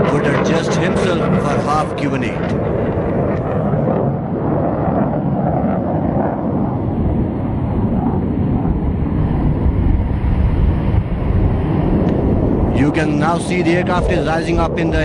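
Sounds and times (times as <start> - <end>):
fighter jet deep rumble: 0.0 - 15.0.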